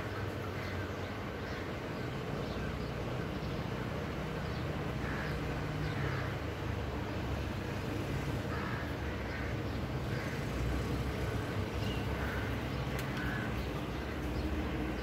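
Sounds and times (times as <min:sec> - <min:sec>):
low traffic hum: 0:00.0 - 0:15.0.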